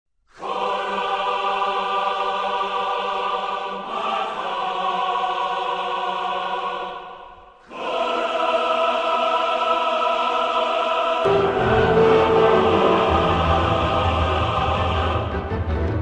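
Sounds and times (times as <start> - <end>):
choir-like intro music: 0.3 - 16.0.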